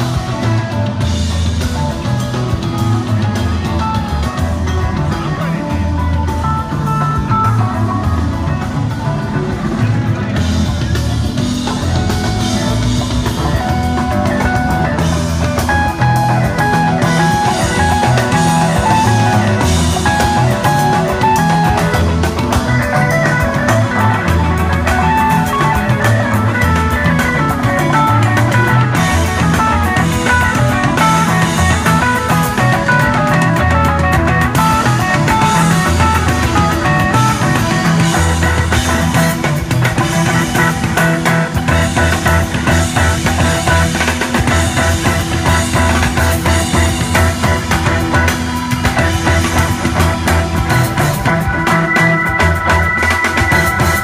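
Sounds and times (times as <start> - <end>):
electric guitar fast notes: 0.0 - 54.0
live rock band playing: 0.0 - 54.0
pulsing bass line: 0.0 - 54.0.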